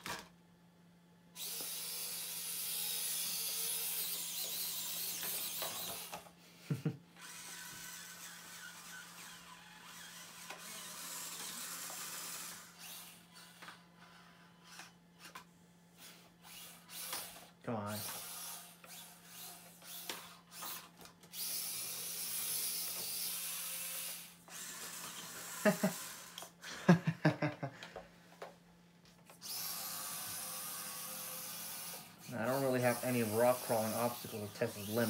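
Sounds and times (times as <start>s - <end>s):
toy car motors whirring: 1.4s - 6.4s, 7.2s - 26.6s, 29.2s - 35.0s.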